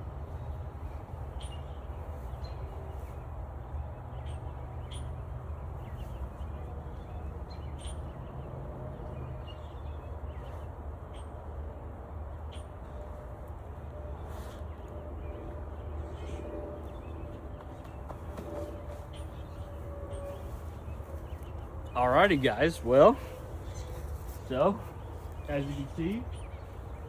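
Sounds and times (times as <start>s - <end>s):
birds chirping: 0.0s - 11.3s, 14.3s - 27.0s.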